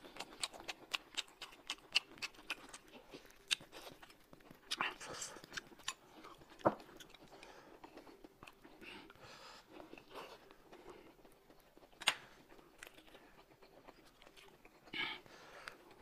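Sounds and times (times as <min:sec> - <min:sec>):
chewing and biting food: 0:00.0 - 0:16.0.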